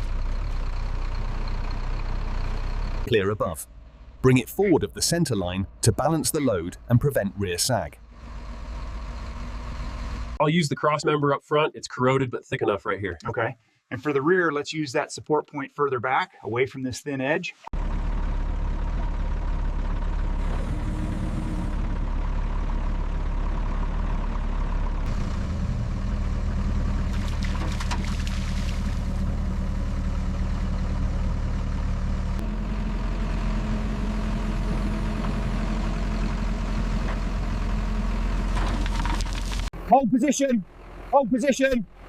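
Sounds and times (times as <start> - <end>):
truck engine running: 0.0 - 10.4, 17.7 - 42.0.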